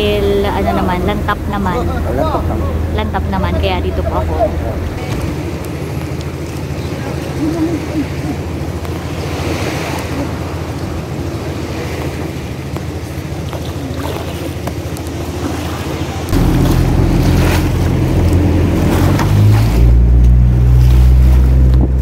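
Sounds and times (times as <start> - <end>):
boat engine running: 0.0 - 22.0
water splashing: 0.0 - 22.0.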